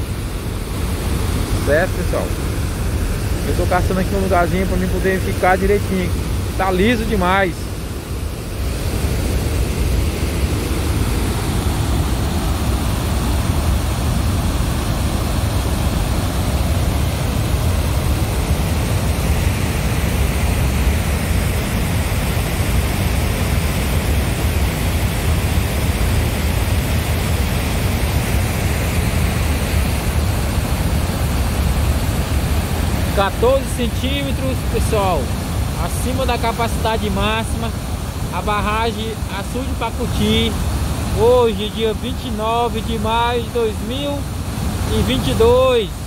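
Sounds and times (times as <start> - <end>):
water rushing over spillway: 0.0 - 46.0.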